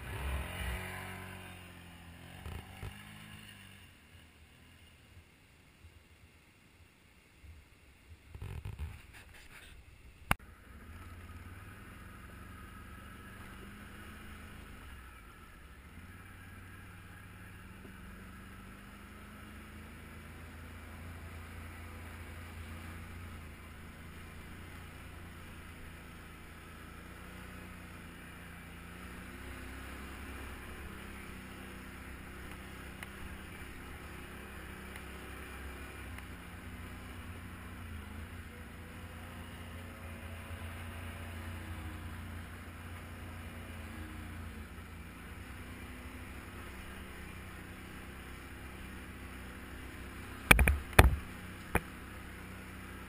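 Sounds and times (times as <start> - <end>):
quad bike engine running: 0.0 - 5.3, 10.4 - 53.0.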